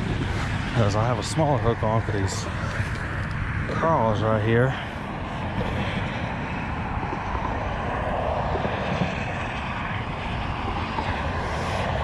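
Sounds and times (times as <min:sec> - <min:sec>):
highway traffic roar: 0:00.0 - 0:12.0.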